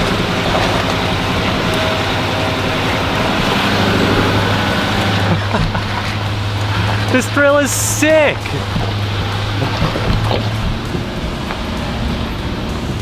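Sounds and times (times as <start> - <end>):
pickup truck engine hum: 0.0 - 13.0
tyre noise on muddy trail: 0.0 - 13.0.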